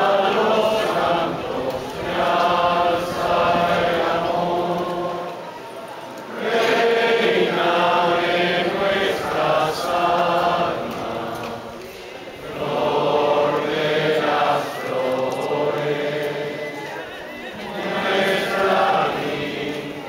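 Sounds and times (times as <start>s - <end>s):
crowd singing religious chant: 0.0s - 20.0s.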